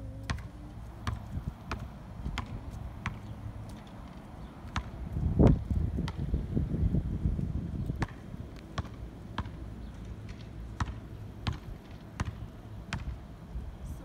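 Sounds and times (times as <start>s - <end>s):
basketball bouncing on asphalt: 0.2s - 13.4s.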